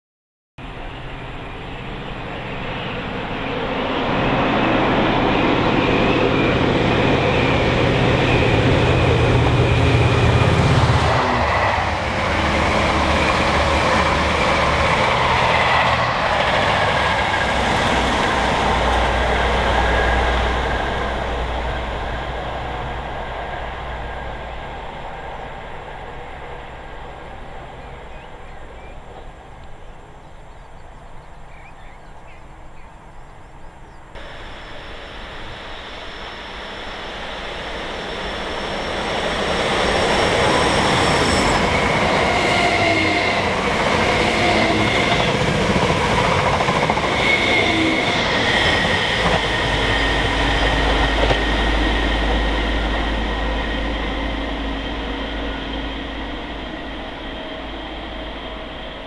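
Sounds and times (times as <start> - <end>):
diesel locomotive engine hum: 0.6 - 59.0
train wheels rumbling: 0.6 - 59.0.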